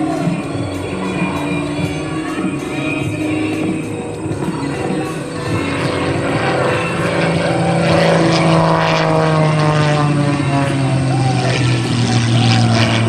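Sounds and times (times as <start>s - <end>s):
propeller plane engine low pass: 0.0s - 13.0s.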